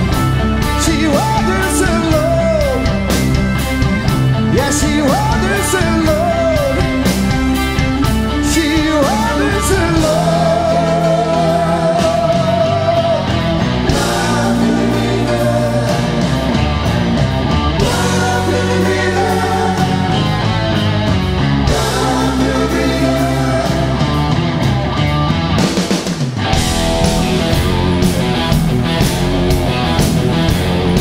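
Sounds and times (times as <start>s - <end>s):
drum kit with cymbals: 0.0s - 31.0s
live rock band playing: 0.0s - 31.0s.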